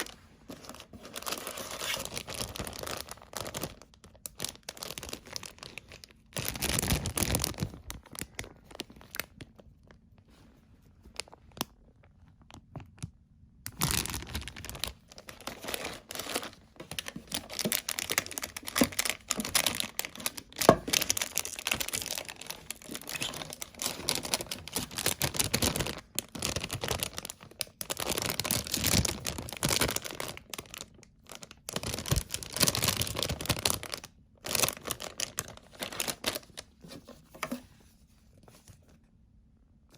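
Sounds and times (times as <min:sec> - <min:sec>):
packaging torn and crinkled: 0:00.0 - 0:09.4, 0:13.7 - 0:36.9.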